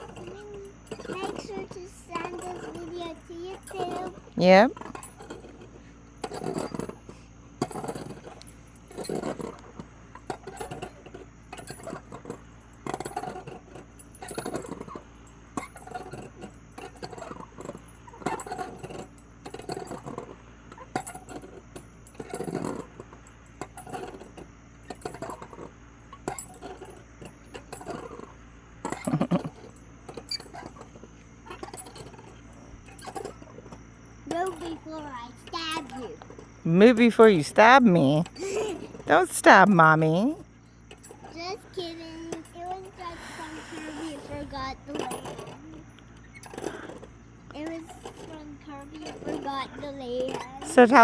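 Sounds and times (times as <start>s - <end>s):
swing chains clinking: 0.0s - 51.0s.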